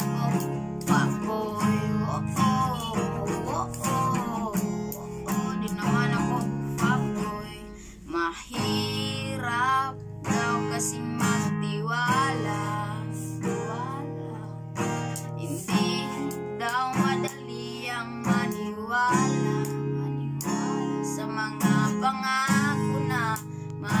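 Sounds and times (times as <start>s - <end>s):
acoustic guitar strumming: 0.0s - 24.0s
boy singing: 0.0s - 24.0s.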